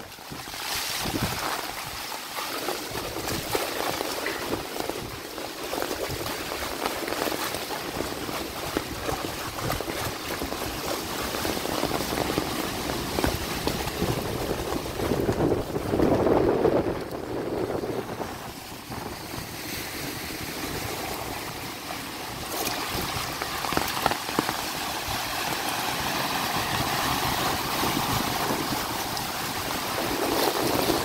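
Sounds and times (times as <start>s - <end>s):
floodwater running: 0.0s - 31.0s
heavy rain falling: 2.9s - 19.3s, 20.0s - 31.0s.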